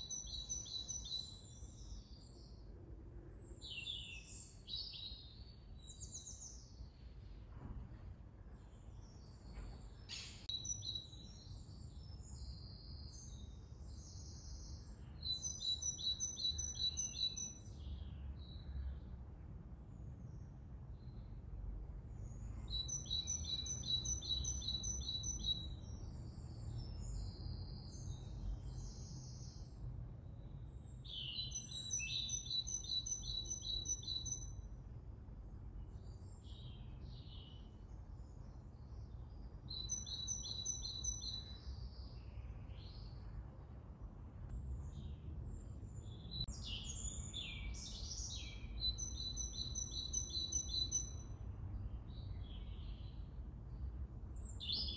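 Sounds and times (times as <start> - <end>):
songbird singing: 0.0 - 7.4, 8.4 - 19.3, 19.9 - 54.9.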